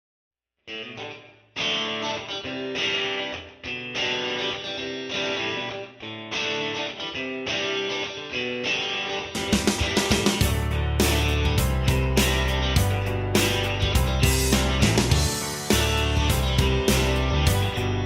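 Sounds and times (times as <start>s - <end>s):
strummed guitar chords: 0.7s - 18.0s.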